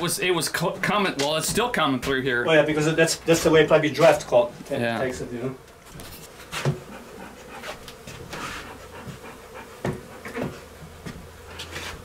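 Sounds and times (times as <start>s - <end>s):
bee swarm humming: 0.0s - 12.0s.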